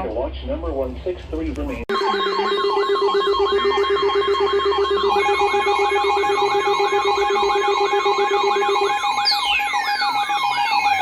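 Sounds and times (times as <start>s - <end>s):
fast warbling alert tone: 1.9s - 11.0s
steady alarm tones: 1.9s - 11.0s
falling siren-like tone: 2.0s - 11.0s.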